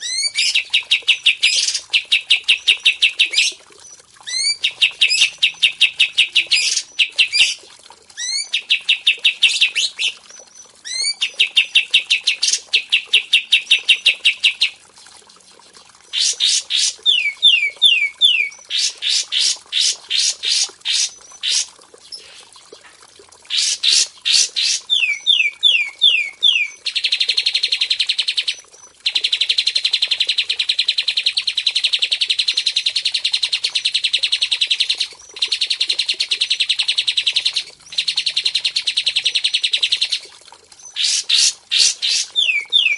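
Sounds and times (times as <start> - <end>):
songbird singing: 0.0 - 7.6, 8.2 - 14.8, 16.1 - 22.4, 23.5 - 40.2, 40.8 - 42.9.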